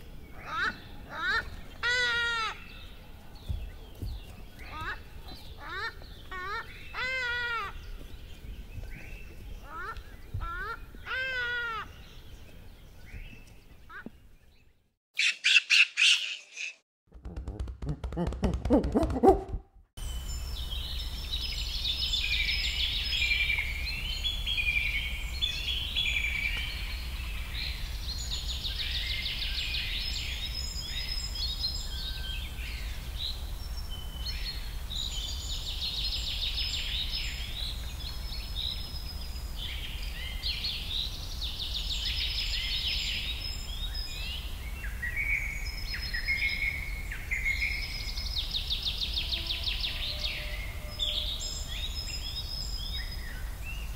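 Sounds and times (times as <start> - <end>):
birds chirping and trilling: 0.0 - 16.8, 20.1 - 53.9.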